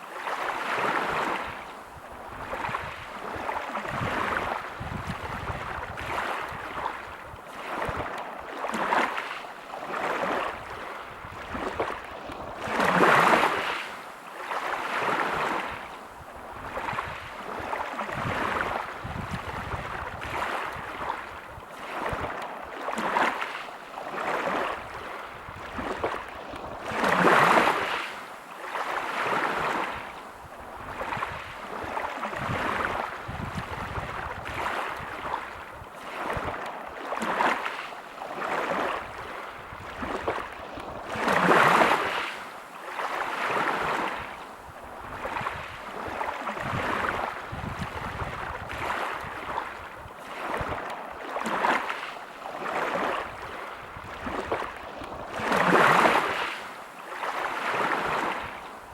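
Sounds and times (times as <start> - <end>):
waves breaking on pebble beach: 2.4 - 15.8, 16.6 - 30.1, 30.9 - 44.4, 45.1 - 58.9.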